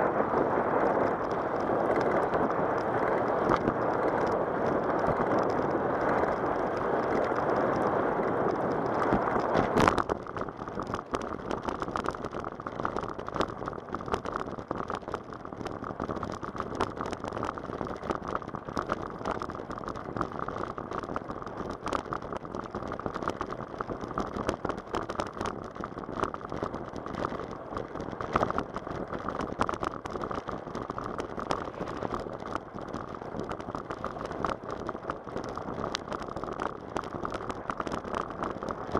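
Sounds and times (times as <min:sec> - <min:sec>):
bicycle tyres rolling on asphalt: 0:00.0 - 0:38.9.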